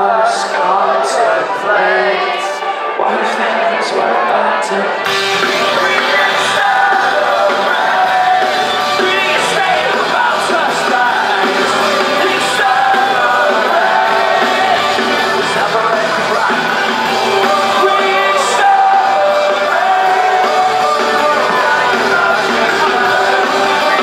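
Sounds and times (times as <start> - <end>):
live rock band with vocals: 0.0 - 24.0.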